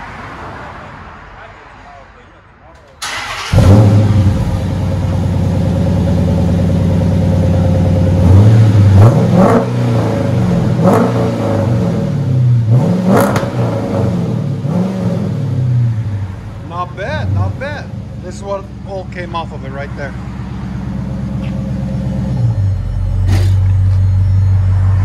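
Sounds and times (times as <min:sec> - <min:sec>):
car engine starting and revving: 0:03.0 - 0:25.0.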